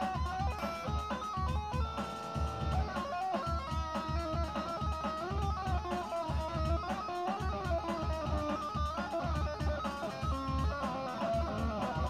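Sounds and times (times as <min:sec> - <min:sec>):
electric guitar lead line: 0:00.0 - 0:12.0
steady low beat: 0:00.0 - 0:12.0.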